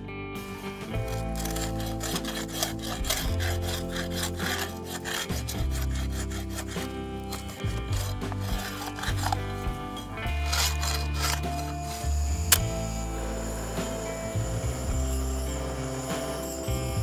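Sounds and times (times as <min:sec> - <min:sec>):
metal scraper rasping on wood: 0:01.0 - 0:17.0.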